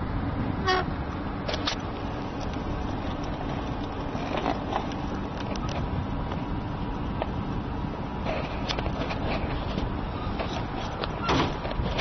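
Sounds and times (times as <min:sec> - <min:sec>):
low rumbling background: 0:00.0 - 0:12.0.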